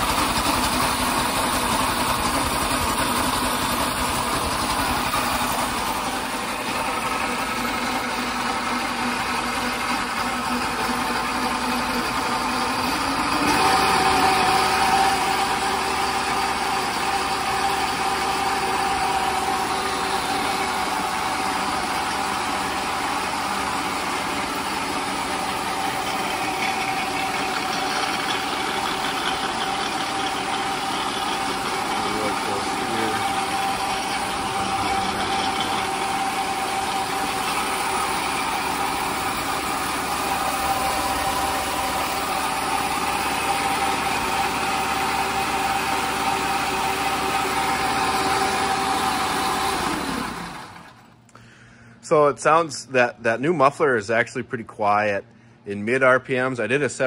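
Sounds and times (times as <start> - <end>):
small gas engine running: 0.0 - 51.8.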